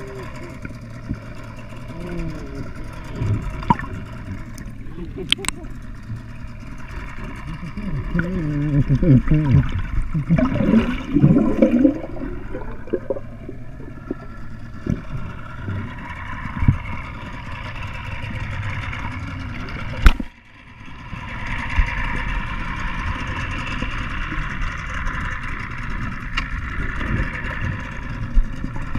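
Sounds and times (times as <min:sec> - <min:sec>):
underwater boat engine drone: 0:00.0 - 0:28.9.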